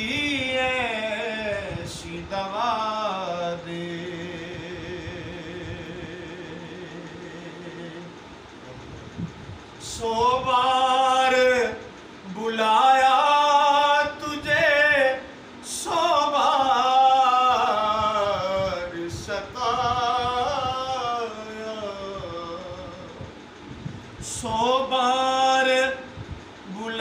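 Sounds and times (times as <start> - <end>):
man singing devotional poem: 0.0 - 8.2, 9.8 - 23.4, 24.2 - 27.0.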